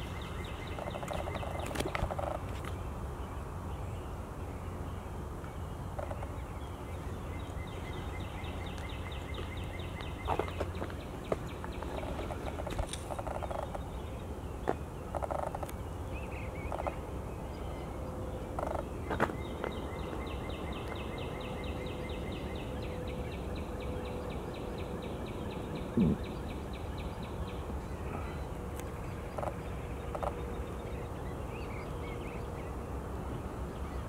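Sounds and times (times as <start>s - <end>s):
birds calling: 0.0s - 34.0s.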